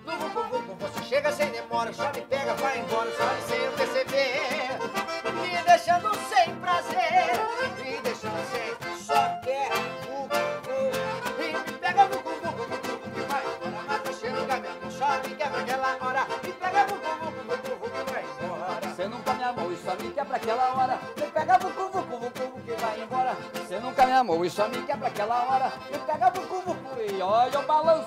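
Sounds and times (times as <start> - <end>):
accordion melody: 0.0 - 28.0
acoustic guitar: 0.0 - 28.0.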